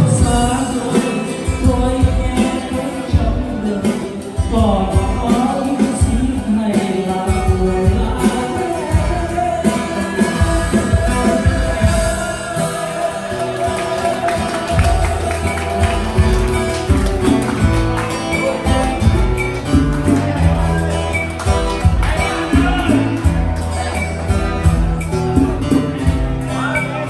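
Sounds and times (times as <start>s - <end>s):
man singing: 0.0s - 27.0s
steady drum beat: 0.0s - 27.0s
strummed acoustic guitars: 0.0s - 27.0s.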